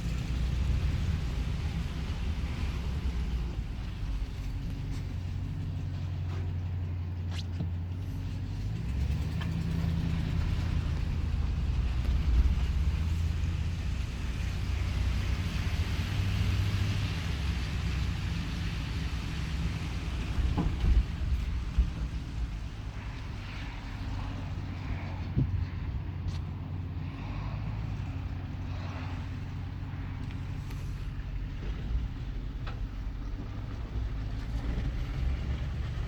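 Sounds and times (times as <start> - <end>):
engine running low rumble: 0.0 - 36.0.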